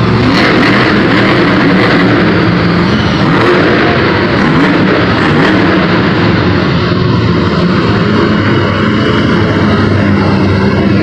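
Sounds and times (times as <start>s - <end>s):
monster truck engines revving: 0.0s - 11.0s.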